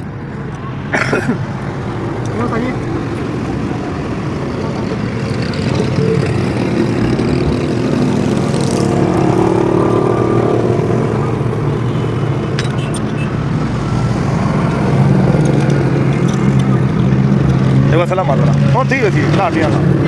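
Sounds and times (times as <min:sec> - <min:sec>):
engine running: 0:00.4 - 0:20.0.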